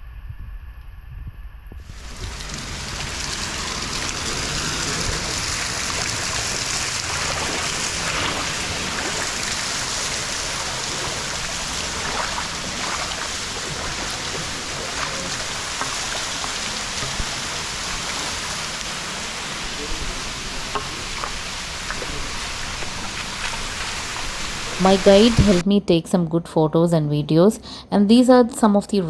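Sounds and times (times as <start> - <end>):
crackle of spray: 1.8 - 25.6
waterfall splashing: 1.8 - 25.6.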